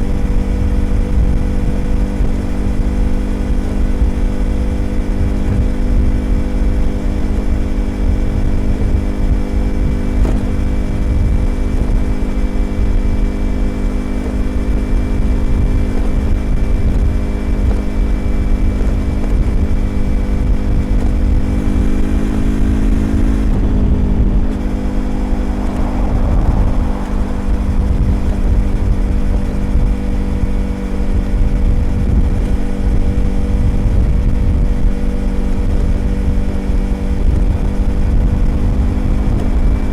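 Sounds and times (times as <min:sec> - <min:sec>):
motorcycle engine at steady revs: 0:00.0 - 0:39.9
wind rush: 0:00.0 - 0:39.9.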